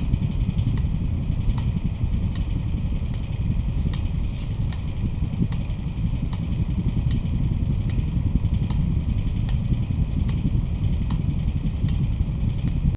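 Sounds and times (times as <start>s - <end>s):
electric fan rumble: 0.0s - 12.9s.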